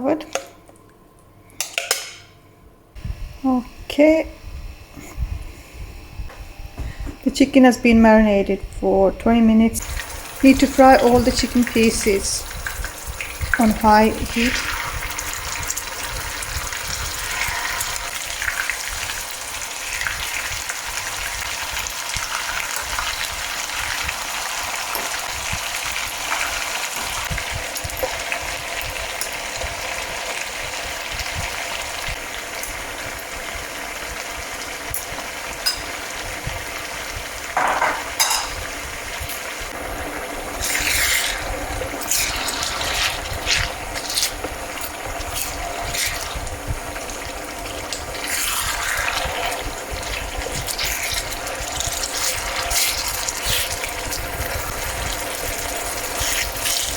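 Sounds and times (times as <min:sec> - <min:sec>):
chicken sizzling in oil: 0:09.8 - 0:56.9.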